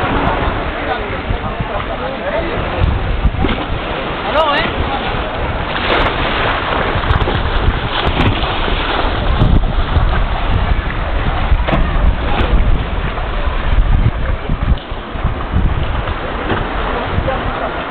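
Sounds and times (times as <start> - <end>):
choppy sea water washing: 0.0 - 17.9
wind rumbling on microphone: 0.0 - 17.9.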